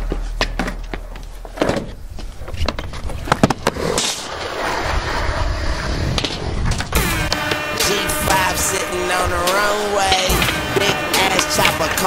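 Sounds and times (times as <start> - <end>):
skateboard wheels rolling on concrete: 0.0 - 12.0
skateboard clacks: 1.6 - 12.0.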